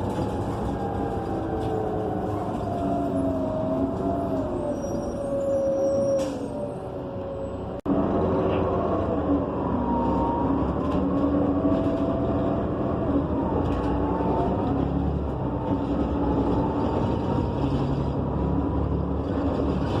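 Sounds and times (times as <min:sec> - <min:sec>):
bus engine humming and whining: 0:00.0 - 0:20.0.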